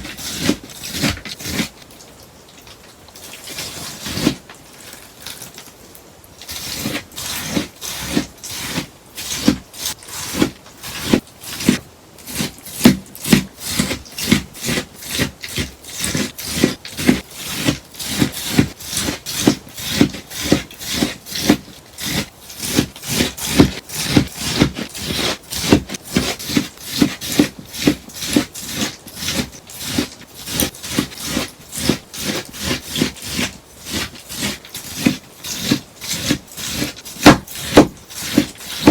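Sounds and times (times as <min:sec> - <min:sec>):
scissors snipping sponge: 0:00.0 - 0:01.7, 0:06.4 - 0:38.9.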